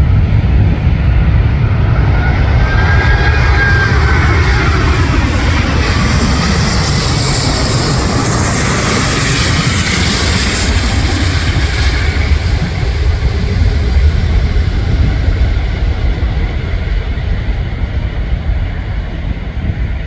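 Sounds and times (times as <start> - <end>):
jet airliner deep rumble: 0.0 - 20.0.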